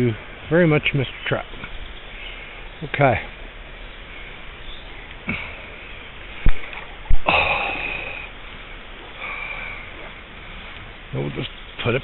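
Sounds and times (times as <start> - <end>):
shallow river flowing: 0.0 - 12.0.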